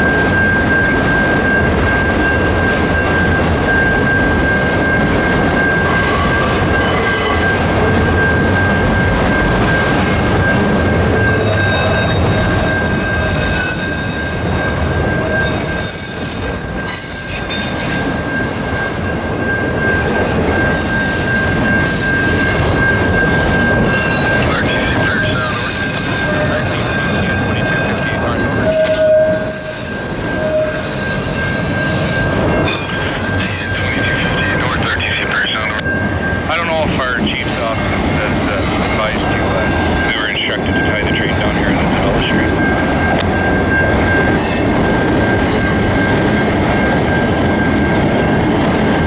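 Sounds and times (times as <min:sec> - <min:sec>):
high wheel squeal: 0:00.0 - 0:48.6
level crossing warning bell: 0:00.0 - 0:49.0
train wheels rumbling on rail: 0:00.0 - 0:49.0.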